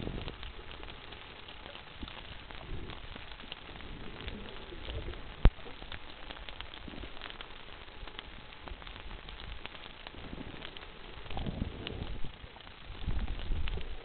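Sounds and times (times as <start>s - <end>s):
underwater reef crackling: 0.0s - 14.0s.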